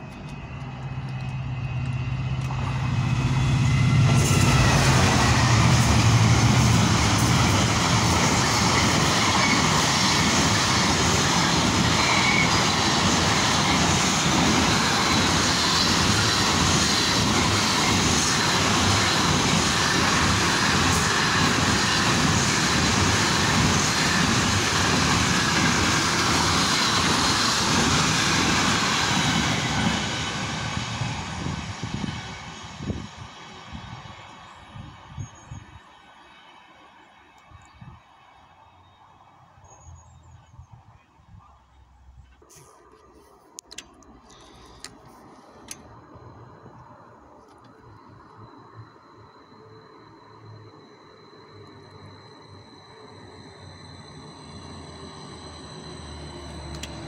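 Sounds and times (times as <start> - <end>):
train wagons wheel and rail noise: 0.0 - 57.0.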